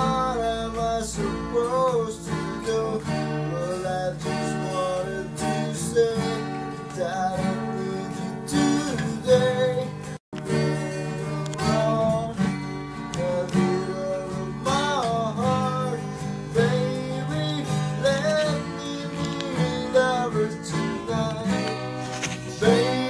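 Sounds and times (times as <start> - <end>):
acoustic guitar strumming chords: 0.0 - 23.0
sliding guitar melody: 0.0 - 23.0.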